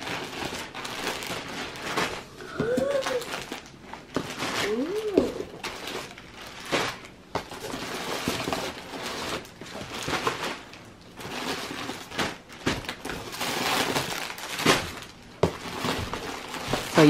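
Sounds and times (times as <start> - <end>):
plastic packages rustling: 0.0 - 17.0.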